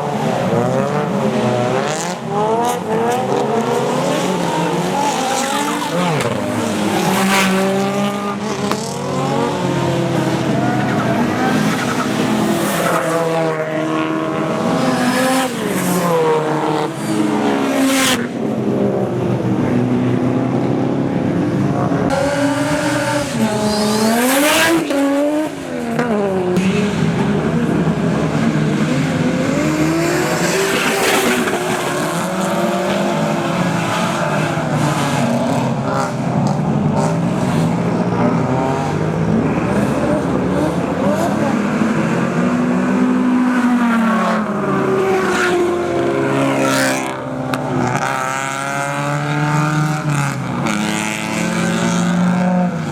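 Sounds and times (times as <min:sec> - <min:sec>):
car engines revving hard: 0:00.0 - 0:52.9.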